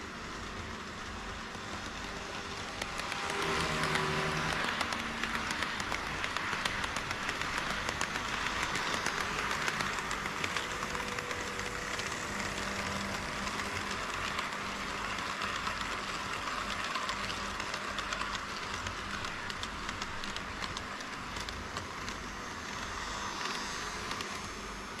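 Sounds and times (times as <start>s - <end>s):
model train rolling on rails: 0.0s - 25.0s
clicks at rail joints: 1.5s - 24.6s.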